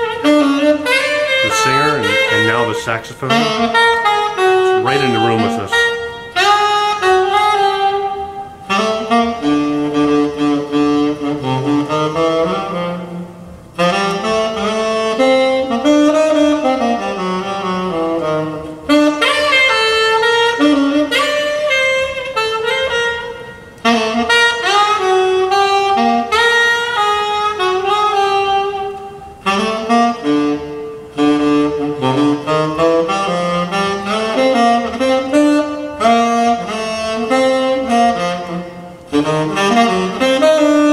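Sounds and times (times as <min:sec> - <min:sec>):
jazz saxophone solo: 0:00.0 - 0:40.9.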